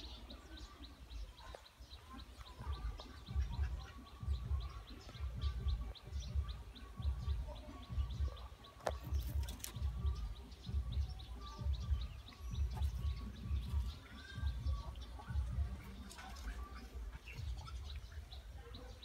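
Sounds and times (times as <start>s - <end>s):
rapid high bird chirps: 0.0s - 19.0s.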